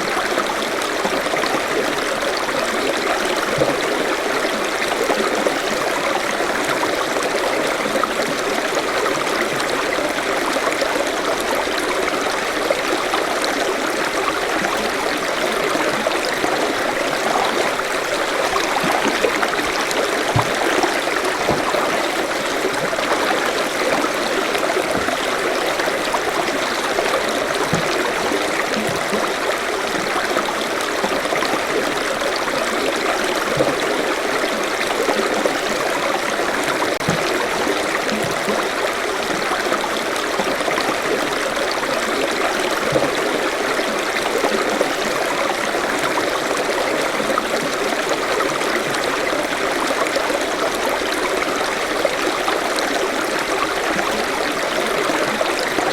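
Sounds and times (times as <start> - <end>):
stream flowing over stones: 0.0 - 55.9.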